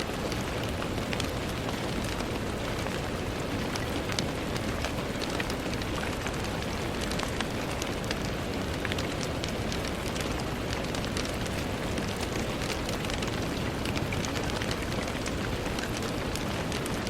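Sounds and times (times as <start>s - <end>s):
rain on a window pane: 0.0s - 17.0s.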